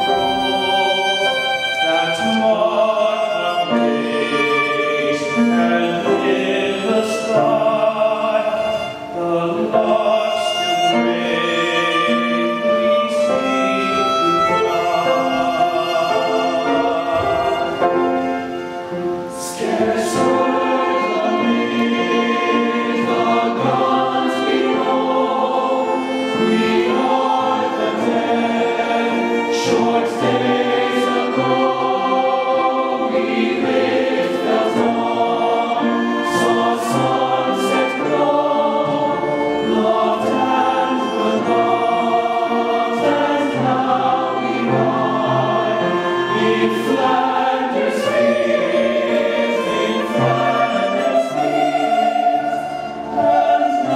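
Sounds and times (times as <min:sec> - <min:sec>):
mixed choir singing: 0:00.0 - 0:53.9
violin accompaniment: 0:00.0 - 0:53.9.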